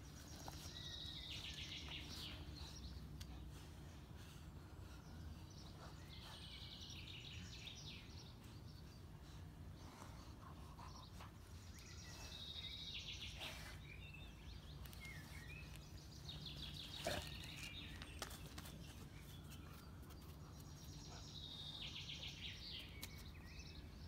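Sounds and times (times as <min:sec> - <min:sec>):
birds chirping: 0:00.0 - 0:24.0
steady low background noise: 0:00.0 - 0:24.0.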